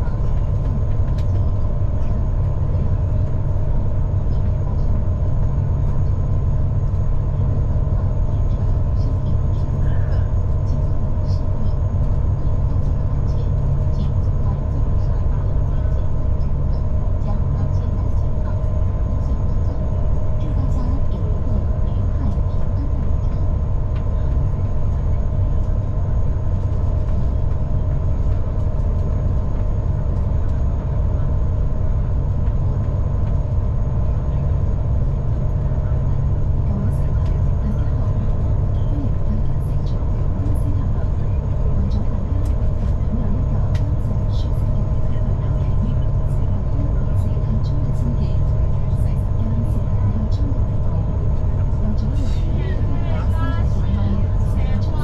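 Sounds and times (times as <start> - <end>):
ferry engines droning: 0.0 - 55.0
steady hum tones: 0.0 - 55.0.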